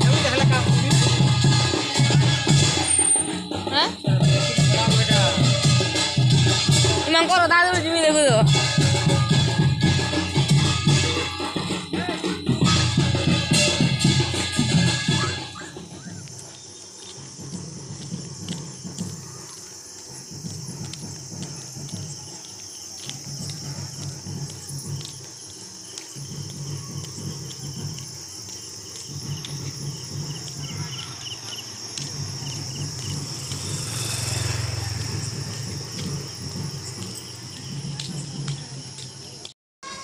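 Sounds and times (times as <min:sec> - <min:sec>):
crickets chirring: 0:00.0 - 0:40.0.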